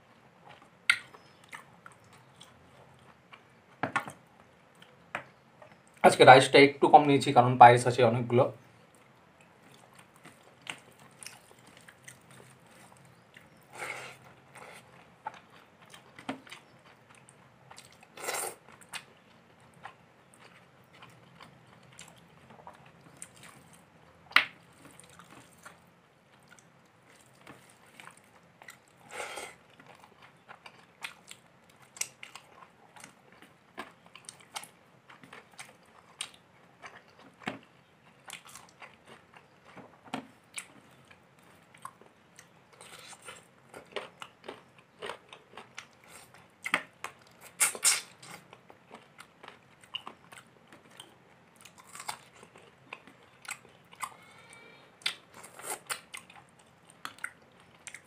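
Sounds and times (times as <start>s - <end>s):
person chewing food: 0.4s - 6.0s, 8.8s - 58.0s.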